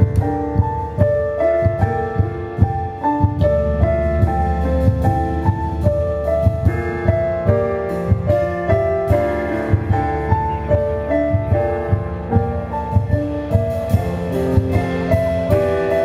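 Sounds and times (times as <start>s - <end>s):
bass: 0.0s - 16.0s
keyboard melody: 0.0s - 16.0s
steady drum beat: 0.0s - 16.0s.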